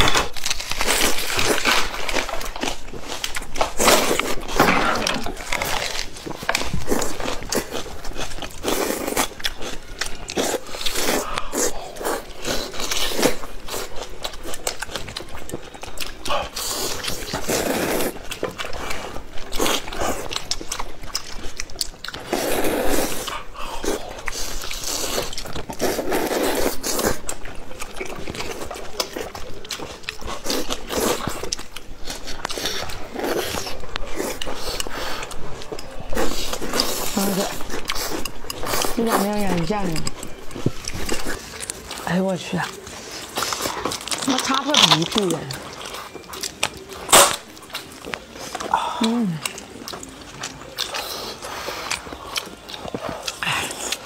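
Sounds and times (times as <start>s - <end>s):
food bitten and chewed: 0.0s - 54.0s.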